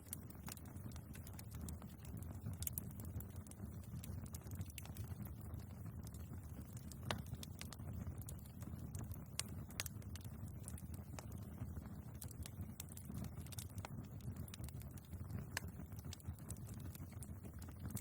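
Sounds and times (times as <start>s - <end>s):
fire flames rumbling: 0.0s - 18.0s
logs crackling and popping: 0.0s - 18.0s.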